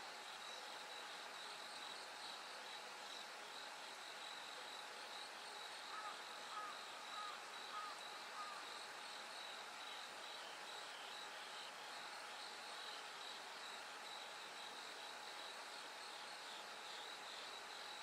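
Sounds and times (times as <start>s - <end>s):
crickets chirping: 0.1s - 18.0s.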